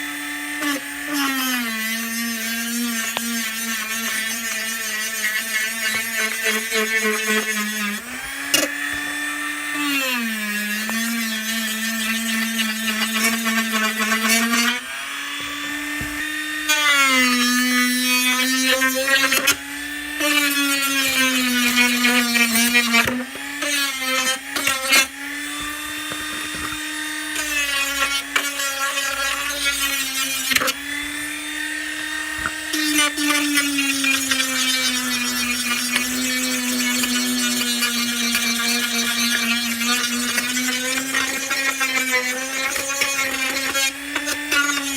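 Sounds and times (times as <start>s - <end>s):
power tool motor whining: 0.0s - 44.9s.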